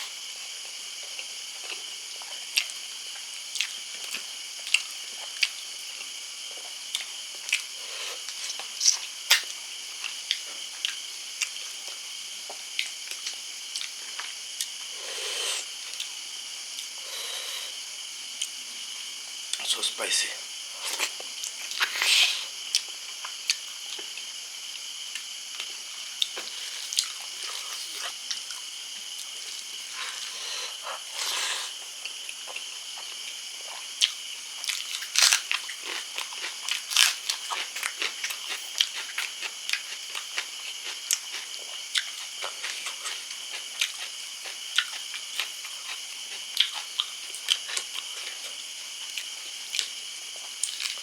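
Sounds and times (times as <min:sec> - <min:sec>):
person chewing and crunching food: 0:00.0 - 0:18.6, 0:20.7 - 0:51.0.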